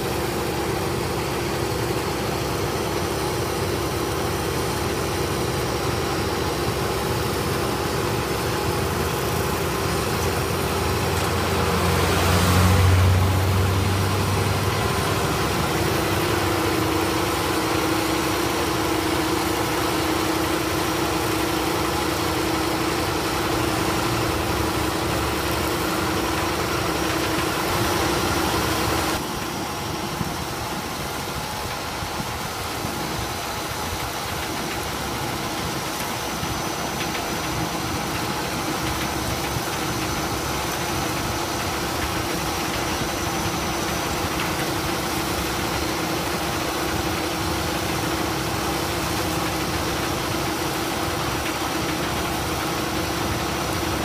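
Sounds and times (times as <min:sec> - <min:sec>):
milling machine hum: 0:00.0 - 0:54.0
tractor engine running under load: 0:00.0 - 0:54.0.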